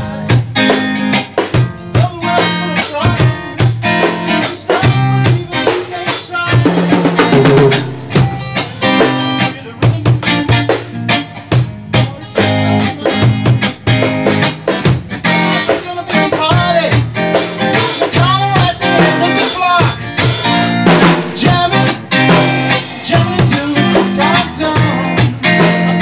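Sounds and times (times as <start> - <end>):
electric guitar sliding melody: 0.0 - 26.0
steady drums: 0.0 - 26.0.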